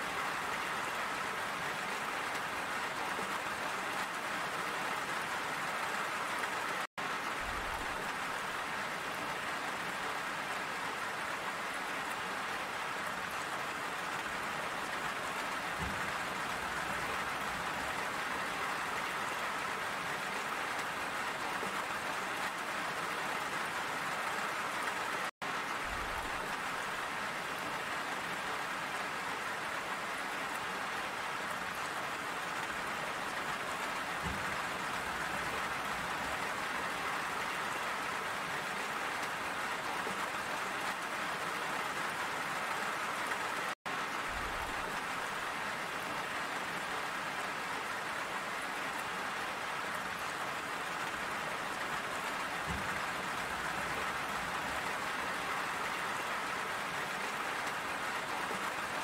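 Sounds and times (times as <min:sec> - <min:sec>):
dense rain falling: 0:00.0 - 0:59.0.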